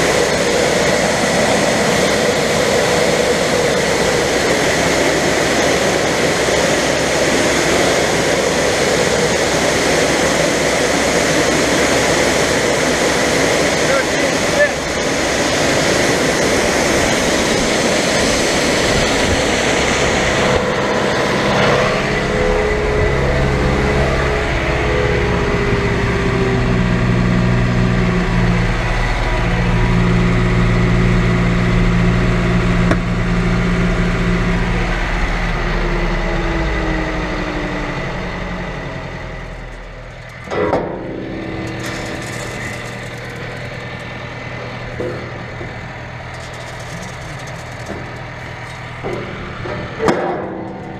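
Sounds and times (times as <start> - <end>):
harvest machinery droning: 0.0 - 50.9.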